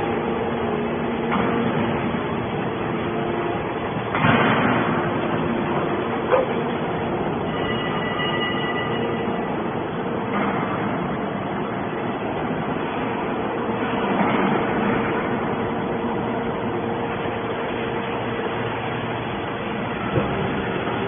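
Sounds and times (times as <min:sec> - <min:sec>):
hydraulic power unit hum: 0:00.0 - 0:21.0.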